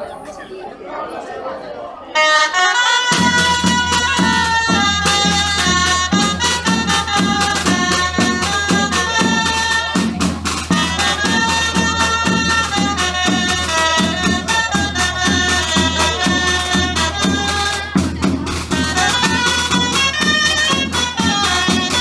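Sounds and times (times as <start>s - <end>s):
folk melody: 2.1s - 22.0s
percussion beat: 2.2s - 22.0s.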